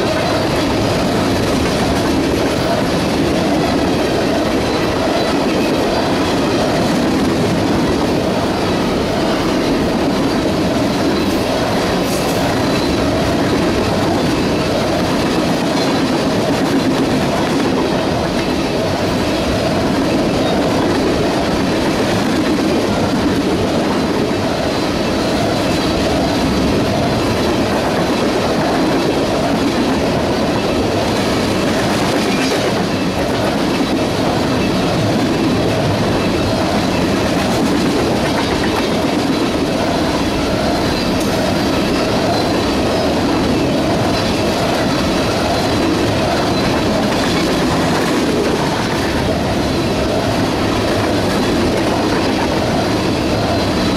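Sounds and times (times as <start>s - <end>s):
steel train wheels rumbling on rails: 0.0s - 53.9s.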